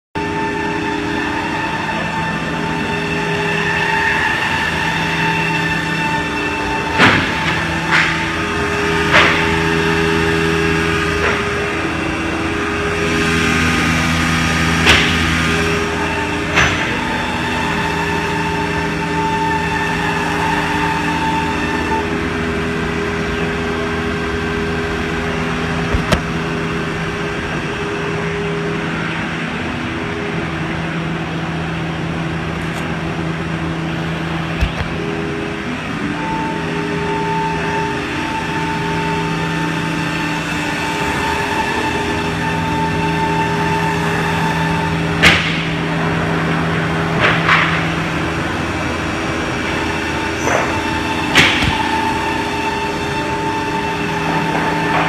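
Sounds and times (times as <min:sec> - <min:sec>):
machine mechanical hum: 0:00.2 - 0:55.0.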